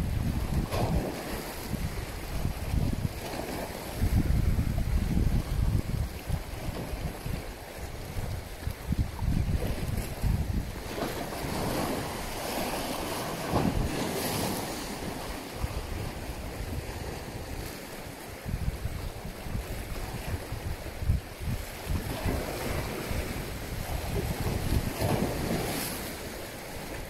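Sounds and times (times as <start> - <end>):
sea waves: 0.0 - 27.0
wind gusting on microphone: 0.0 - 27.0.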